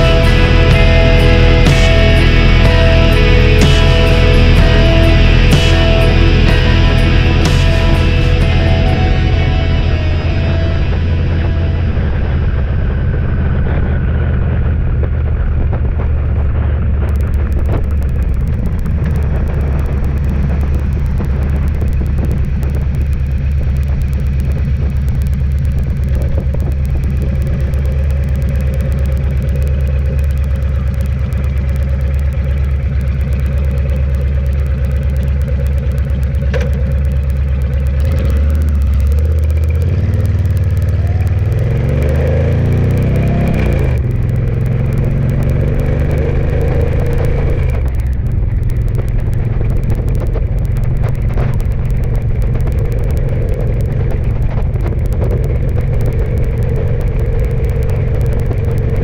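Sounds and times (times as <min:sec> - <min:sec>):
wind noise: 0:00.0 - 0:29.5, 0:38.0 - 0:59.0
road noise: 0:00.0 - 0:59.0
vehicle engine running: 0:00.0 - 0:59.0.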